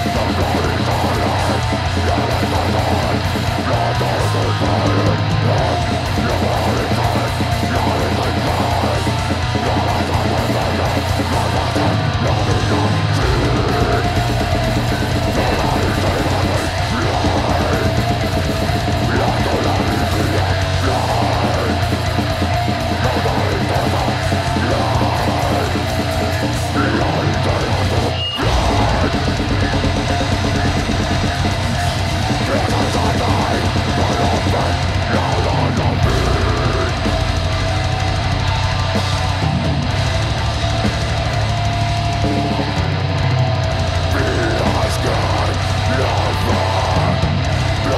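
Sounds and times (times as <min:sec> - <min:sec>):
distorted electric guitar: 0:00.0 - 0:47.9
drum kit: 0:00.0 - 0:47.9.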